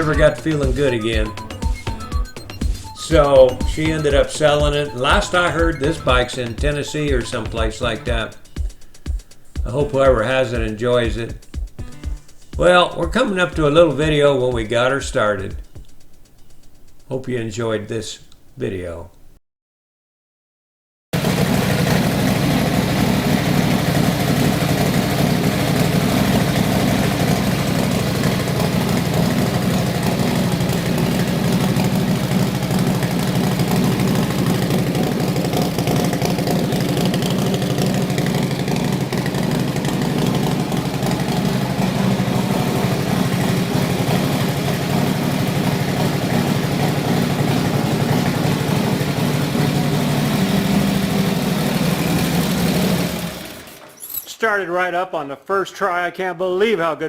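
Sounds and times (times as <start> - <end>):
motorcycle engine idling: 0.0 - 14.8, 21.2 - 53.8.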